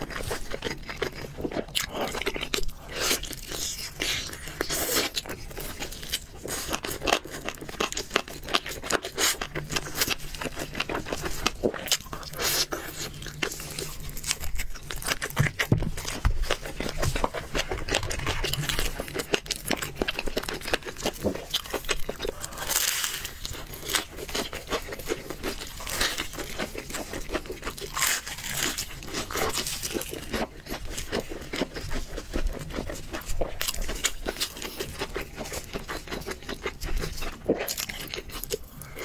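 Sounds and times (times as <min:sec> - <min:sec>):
crunchy chewing of crispy chicken: 0:00.0 - 0:39.0.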